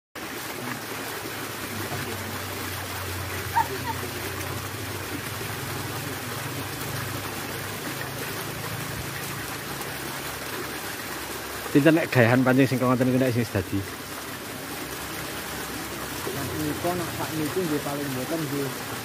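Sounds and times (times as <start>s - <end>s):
running water rushing: 0.2s - 19.0s.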